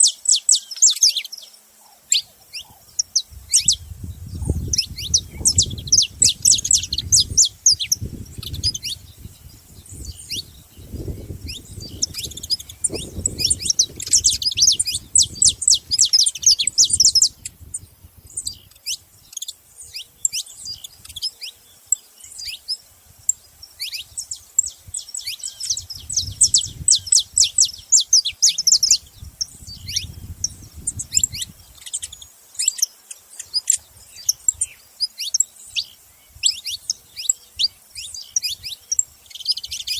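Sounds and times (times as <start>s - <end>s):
finch chirping: 0.0s - 39.9s.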